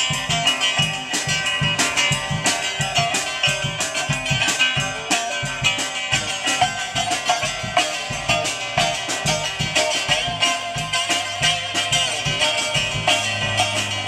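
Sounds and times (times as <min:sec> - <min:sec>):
acoustic guitar strummed and picked: 0:00.0 - 0:14.0
drum kit beat: 0:00.0 - 0:14.0.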